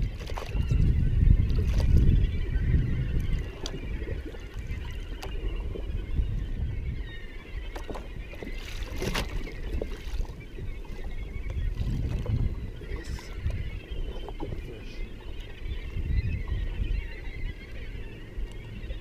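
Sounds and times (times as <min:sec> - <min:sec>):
water lapping against hull: 0:00.0 - 0:19.0.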